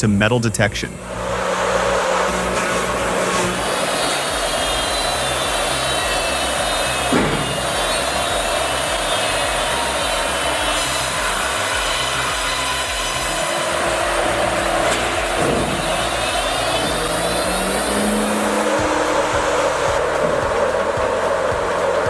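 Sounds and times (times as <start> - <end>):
background music: 0.3 - 22.0
wood-processing machinery running: 0.9 - 22.0.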